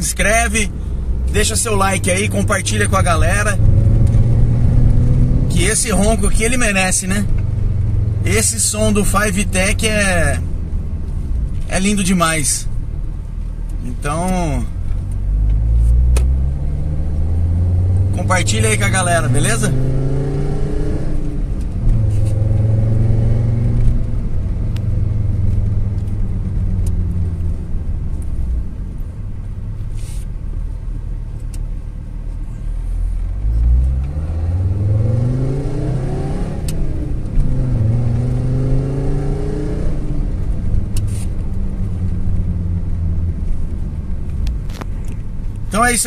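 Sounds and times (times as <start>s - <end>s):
car engine droning while driving: 0.0s - 46.0s.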